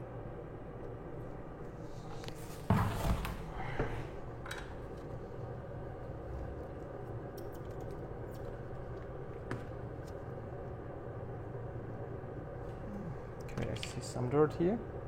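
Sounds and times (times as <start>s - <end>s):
low equipment hum: 0.0s - 15.0s.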